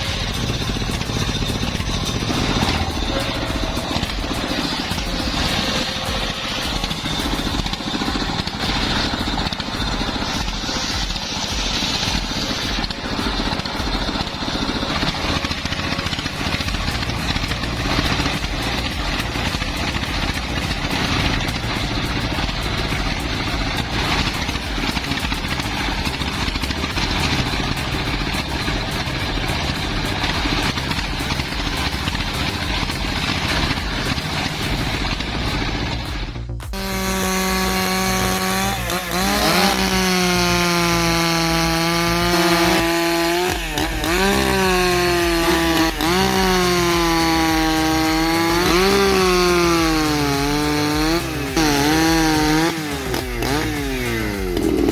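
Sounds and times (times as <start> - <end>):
firewood machinery engine drone: 0.0 - 54.9.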